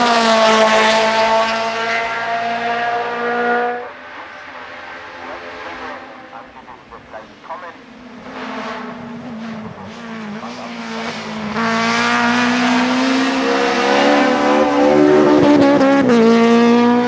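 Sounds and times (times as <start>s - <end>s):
race car engine at full throttle: 0.0s - 17.0s.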